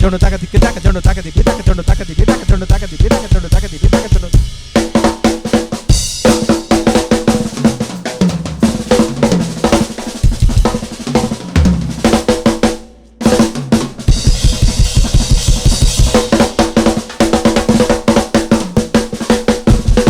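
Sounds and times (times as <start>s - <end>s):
fast drum kit percussion: 0.0s - 20.0s.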